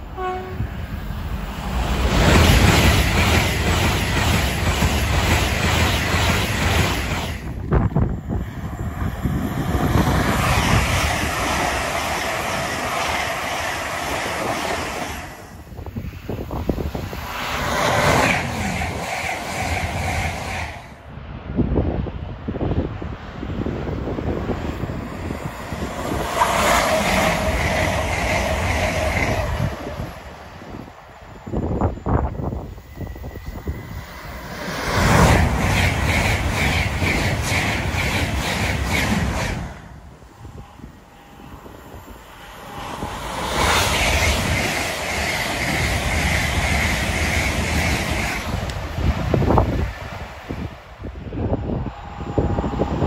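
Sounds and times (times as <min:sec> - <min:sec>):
train wheels rushing on rail: 0:00.0 - 0:53.0.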